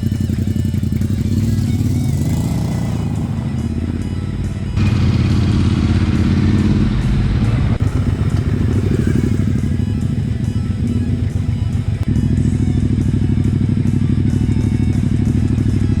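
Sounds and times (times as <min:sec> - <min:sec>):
background music: 0:00.0 - 0:16.0
motorcycle engine running: 0:00.0 - 0:16.0.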